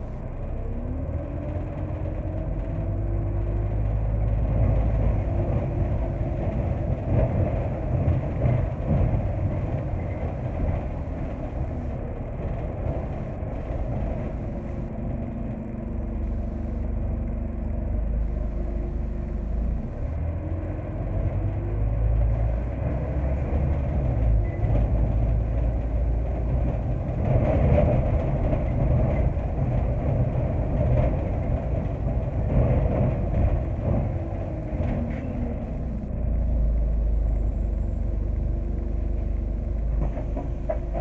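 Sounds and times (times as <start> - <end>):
bus engine rumble and whine: 0.0 - 41.0.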